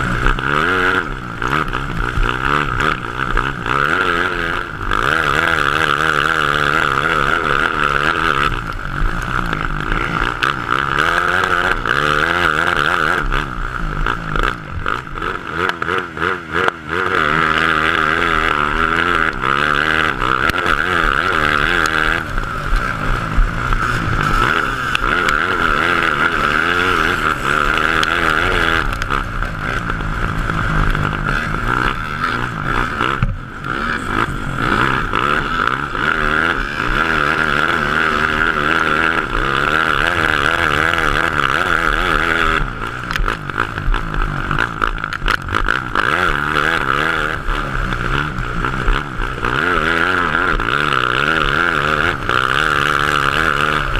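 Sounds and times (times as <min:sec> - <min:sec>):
kart engine revving: 0:00.0 - 0:53.9.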